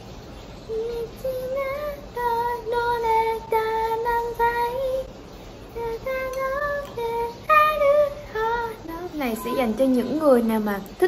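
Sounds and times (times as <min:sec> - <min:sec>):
woman singing gentle melody: 0:00.6 - 0:05.1, 0:05.7 - 0:11.0.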